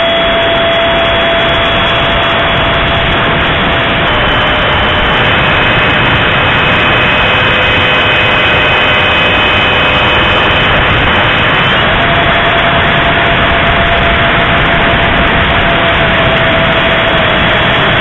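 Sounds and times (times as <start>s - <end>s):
fan and wind rushing: 0.0s - 18.0s
thin steady whine: 0.0s - 18.0s.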